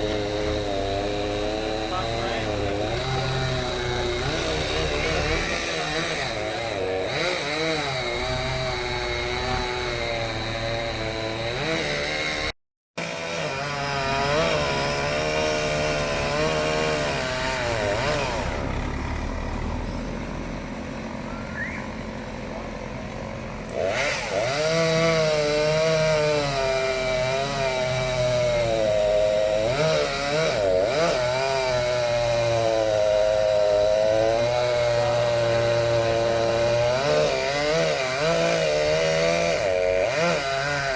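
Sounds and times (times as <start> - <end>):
chainsaw cutting wood: 0.0 - 19.7, 23.5 - 40.9.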